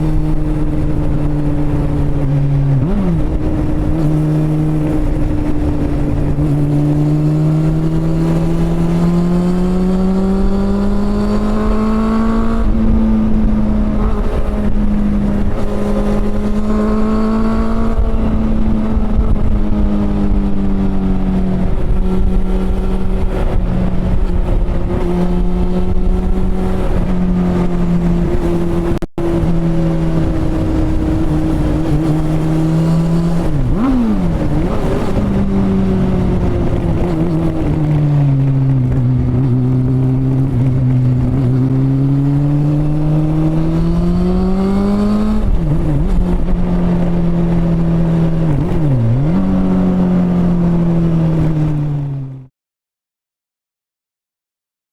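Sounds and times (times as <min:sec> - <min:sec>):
wind and road noise: 0:00.0 - 0:52.5.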